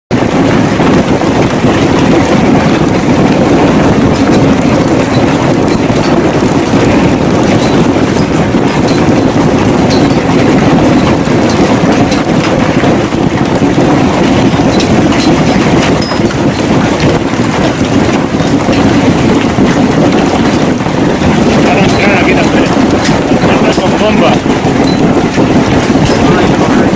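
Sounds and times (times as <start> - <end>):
hail pelting down: 0.2 - 26.9.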